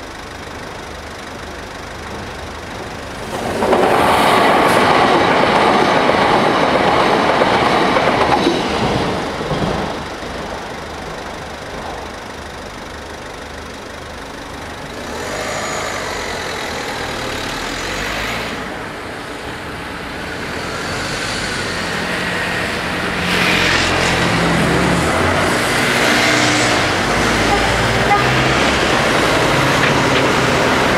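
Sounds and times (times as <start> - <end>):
car and scooter engines: 0.0 - 30.9.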